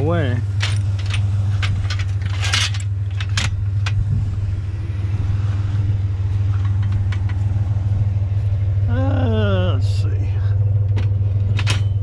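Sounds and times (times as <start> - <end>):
truck exhaust drone: 0.0 - 12.0.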